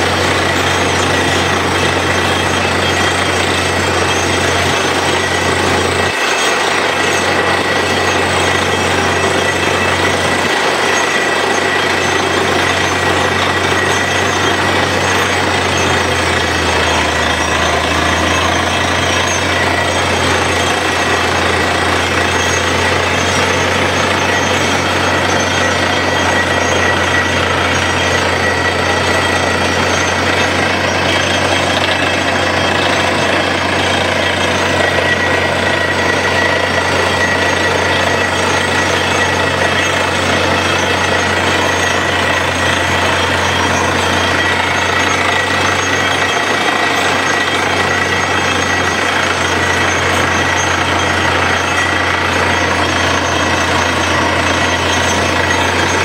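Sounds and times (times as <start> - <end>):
air blasting rock dust: 0.0 - 56.0
drilling rig engine din: 0.0 - 56.0
steady high whine: 0.0 - 56.0.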